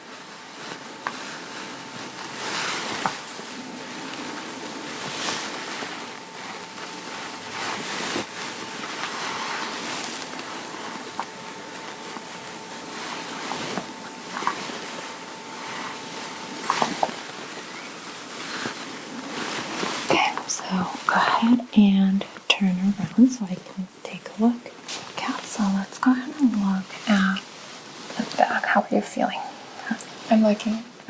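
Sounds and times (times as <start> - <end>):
fabric rustling and rubbing: 0.0 - 31.0.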